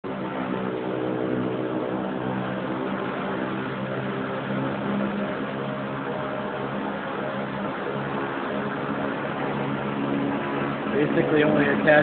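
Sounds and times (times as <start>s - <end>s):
machine humming and rushing: 0.0s - 12.0s.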